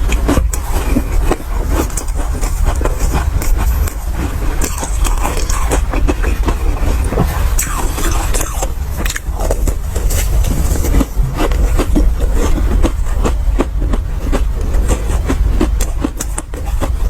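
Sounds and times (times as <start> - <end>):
heavy low rumble: 0.0 - 17.0
ice being chewed and crunched: 0.0 - 17.0.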